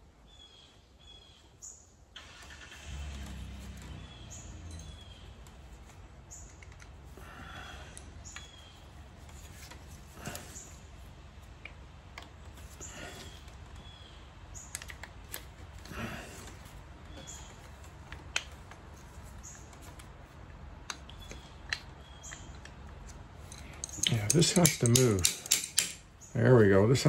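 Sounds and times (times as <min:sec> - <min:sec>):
small parts clicking and rustling: 0:03.0 - 0:26.3.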